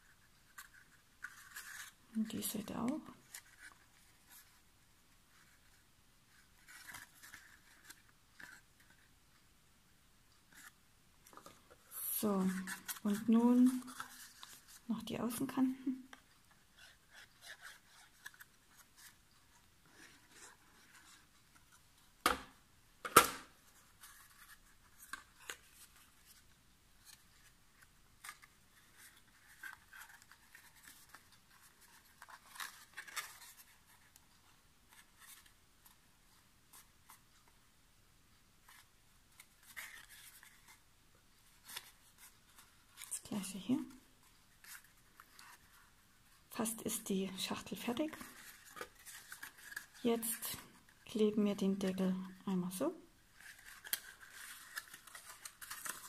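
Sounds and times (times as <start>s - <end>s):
paper rustling: 0.0s - 9.1s, 10.4s - 22.1s, 23.4s - 37.6s, 38.6s - 52.5s, 53.2s - 56.0s.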